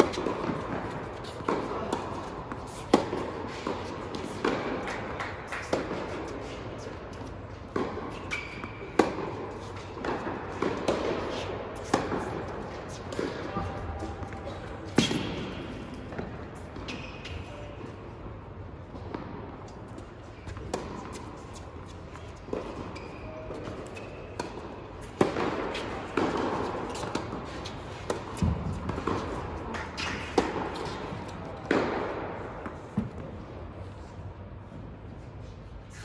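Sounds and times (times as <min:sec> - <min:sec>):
tennis ball bouncing: 0:00.0 - 0:17.4, 0:18.9 - 0:33.5
rackets striking tennis ball: 0:00.0 - 0:17.6, 0:18.9 - 0:33.5.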